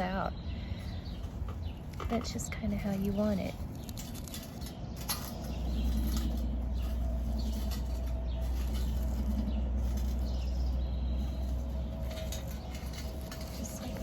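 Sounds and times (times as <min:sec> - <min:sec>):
scratchy rustling: 0:01.1 - 0:14.0.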